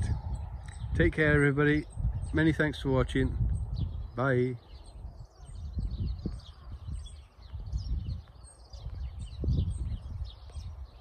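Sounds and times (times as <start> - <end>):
low rumble on microphone: 0.0 - 11.0
small birds chirping: 0.0 - 11.0.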